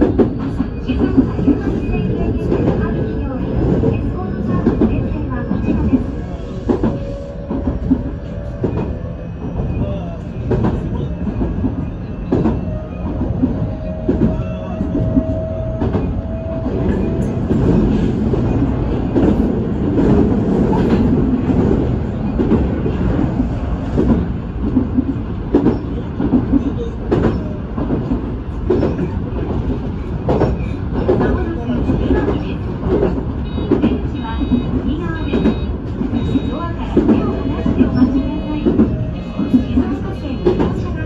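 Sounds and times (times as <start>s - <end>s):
train rumble: 0.0s - 41.0s.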